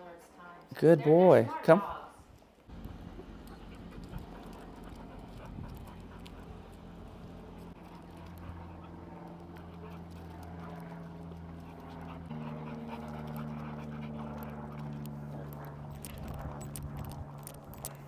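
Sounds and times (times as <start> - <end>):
low hum of sustained tones: 2.7 - 17.7
dog panting: 2.7 - 18.0.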